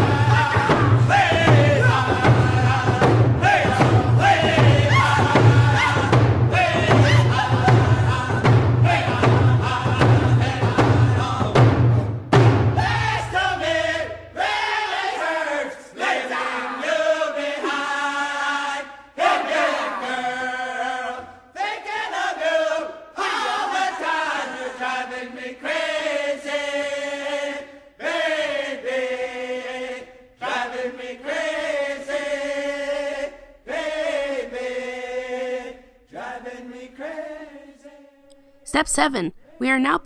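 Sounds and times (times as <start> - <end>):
group chanting: 0.0 - 12.0, 12.6 - 38.6.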